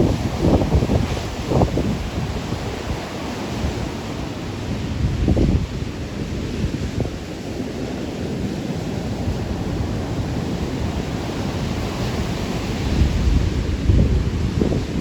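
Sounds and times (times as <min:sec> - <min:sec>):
surf breaking on rocky beach: 0:00.0 - 0:15.0
wind buffeting microphone: 0:00.0 - 0:15.0.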